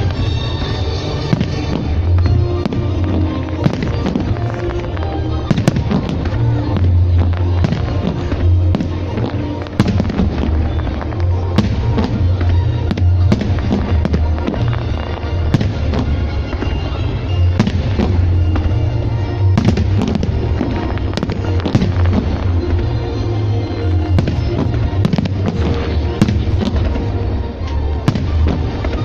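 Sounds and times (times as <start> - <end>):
fireworks bursting with sharp bangs: 0.0 - 29.0
music with deep bass: 0.0 - 29.0.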